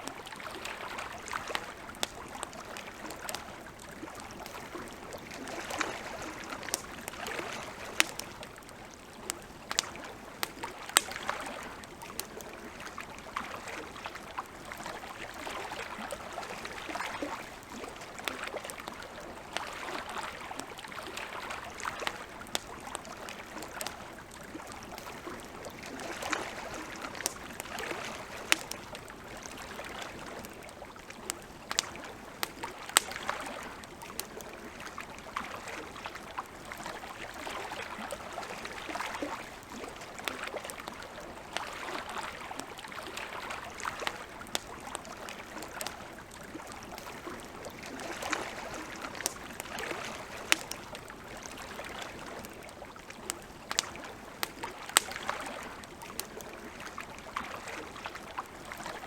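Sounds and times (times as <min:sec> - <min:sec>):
campfire crackling: 0:00.0 - 0:59.0
lake water lapping: 0:00.0 - 0:59.0.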